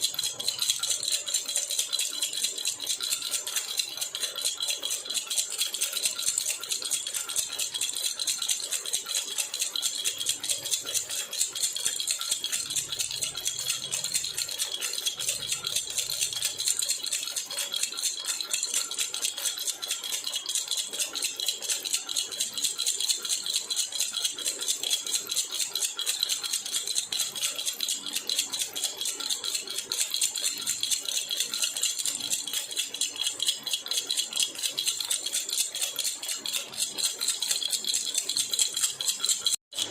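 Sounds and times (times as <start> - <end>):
metal baby rattle jingling: 0.0 - 39.9.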